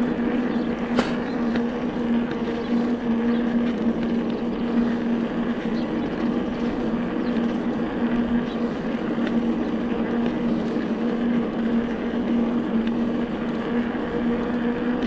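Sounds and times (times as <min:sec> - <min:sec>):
electric bike motor humming: 0:00.0 - 0:15.0
tyres rushing on dirt path: 0:00.0 - 0:15.0.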